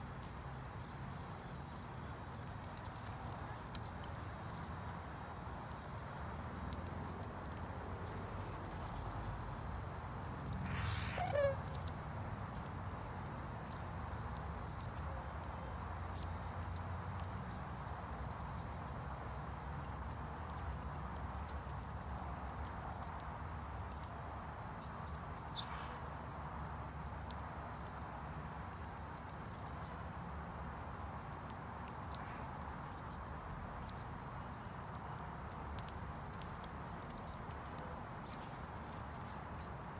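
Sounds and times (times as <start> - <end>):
crickets chirping: 0.0 - 39.9
high insect trill: 0.0 - 39.9.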